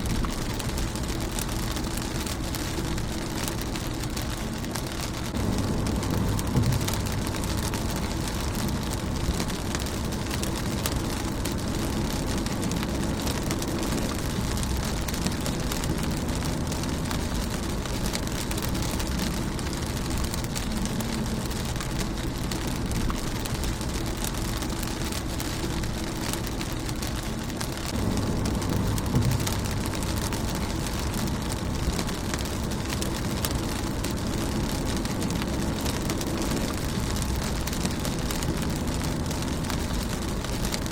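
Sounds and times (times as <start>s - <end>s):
low rumble: 0.0s - 40.9s
rain on car windshield: 0.0s - 40.9s.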